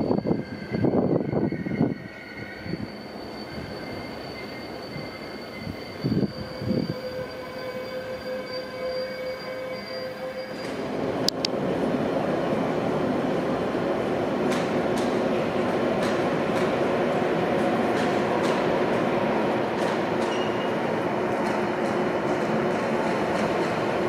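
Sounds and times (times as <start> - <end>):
train brakes squealing: 0.0 - 11.0, 14.5 - 24.0
train rumbling in tunnel: 0.0 - 24.0.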